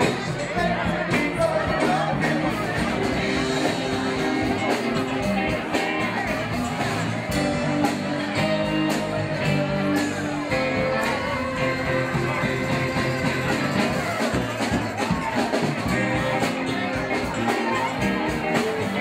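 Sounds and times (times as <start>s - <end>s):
drums keeping a steady beat: 0.0s - 19.0s
electric guitar: 0.0s - 19.0s
keyboard: 0.0s - 19.0s.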